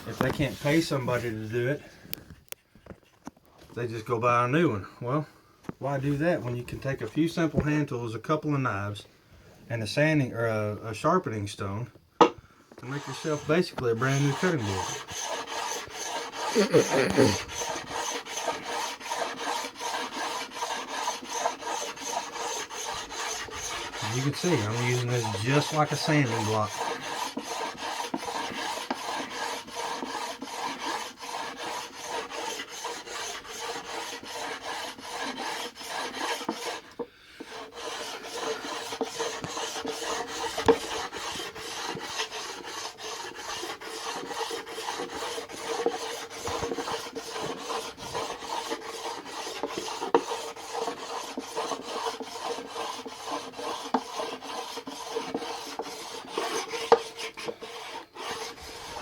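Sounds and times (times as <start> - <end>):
stone scraping wooden board: 0.0 - 1.5, 12.2 - 59.0.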